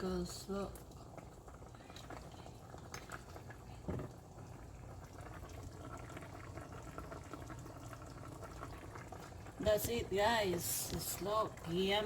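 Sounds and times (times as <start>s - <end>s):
soup boiling and bubbling: 0.0s - 12.0s.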